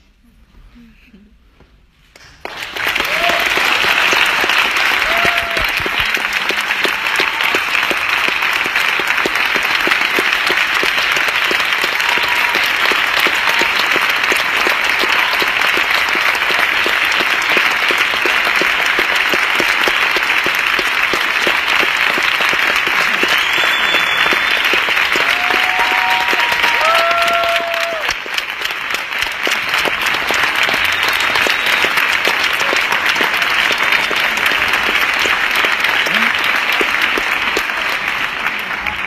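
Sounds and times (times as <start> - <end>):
audience applauding: 2.2 - 39.0.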